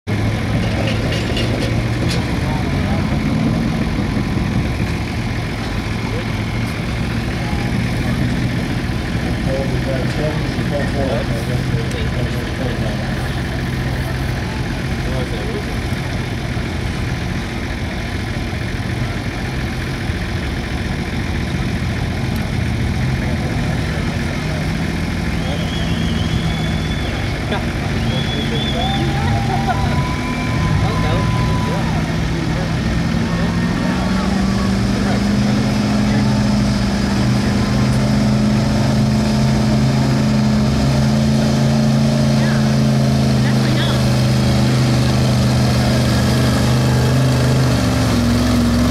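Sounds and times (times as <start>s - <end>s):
truck engine idling: 0.1s - 48.9s.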